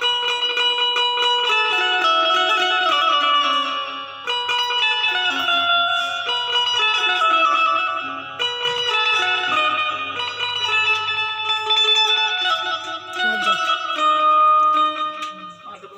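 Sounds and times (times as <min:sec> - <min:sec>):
plucked zither melody: 0:00.0 - 0:15.9.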